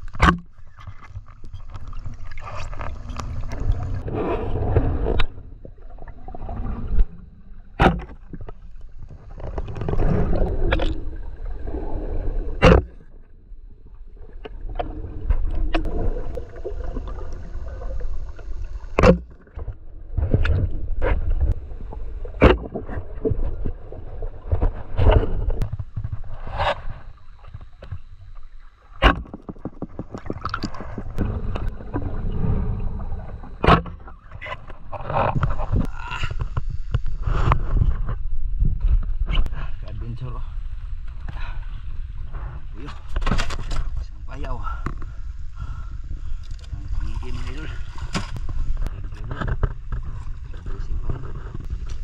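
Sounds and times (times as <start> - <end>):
underwater water gurgling and rushing: 0.0 - 52.0.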